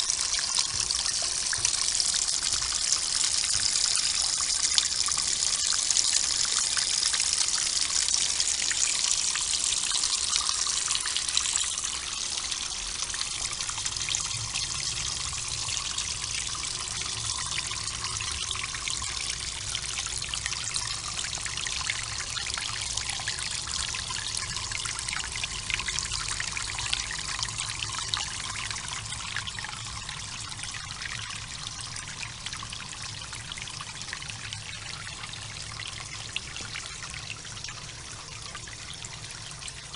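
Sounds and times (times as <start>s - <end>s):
water splashing trickle: 0.0s - 39.9s.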